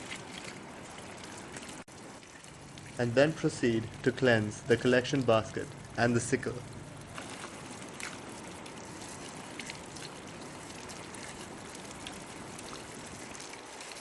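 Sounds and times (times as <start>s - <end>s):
faint taps and splashes: 0.0s - 3.0s, 3.6s - 14.0s
water pouring and trickling: 0.0s - 14.0s.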